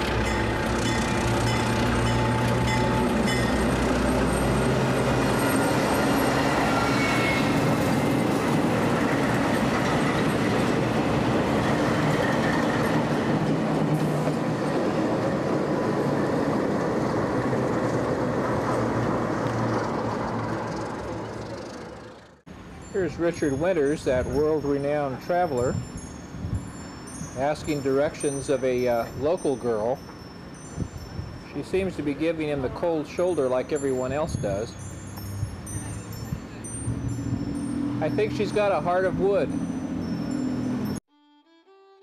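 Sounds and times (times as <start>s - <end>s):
diesel locomotive engine: 0.0s - 41.0s
steel wheels on rails: 0.0s - 41.0s.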